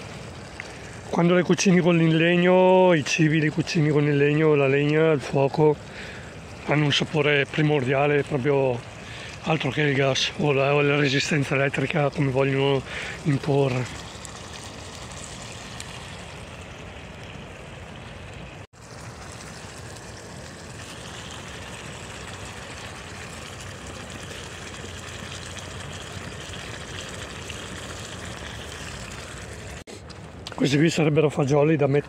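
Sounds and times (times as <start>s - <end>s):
pot simmering bubbling hiss: 0.0s - 32.0s.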